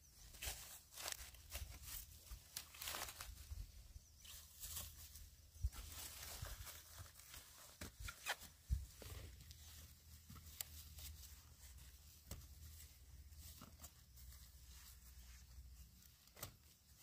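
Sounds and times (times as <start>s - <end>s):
rustling of leaves and vines: 0.0s - 17.0s.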